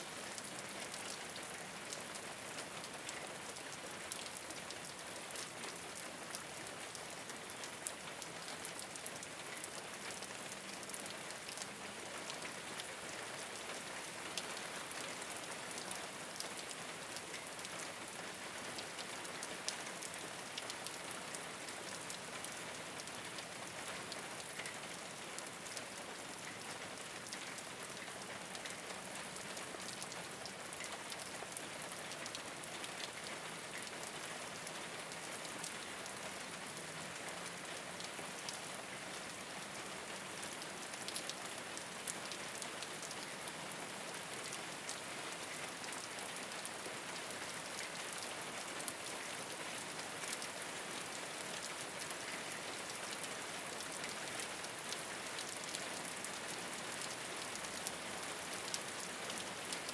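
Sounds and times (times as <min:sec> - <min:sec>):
rain falling on a rooftop: 0:00.0 - 0:59.9.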